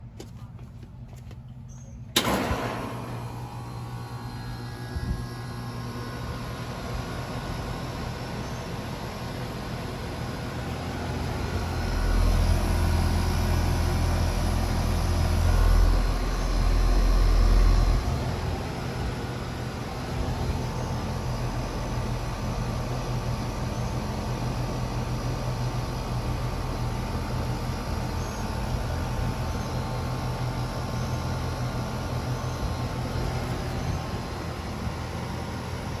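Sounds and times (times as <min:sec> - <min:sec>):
air conditioner running: 0:00.0 - 0:36.0.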